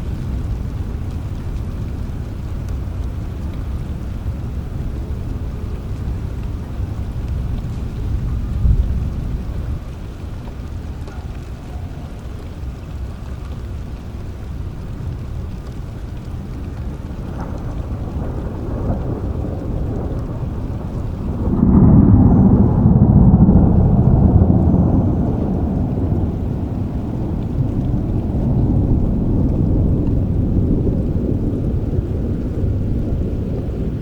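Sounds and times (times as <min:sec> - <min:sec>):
rumble of thunder: 0:00.0 - 0:34.0
steady rain: 0:00.0 - 0:34.0.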